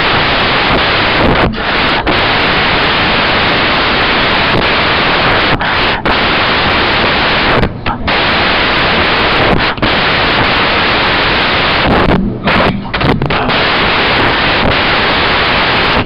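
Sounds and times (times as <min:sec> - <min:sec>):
recording static hiss: 0:00.0 - 0:16.0.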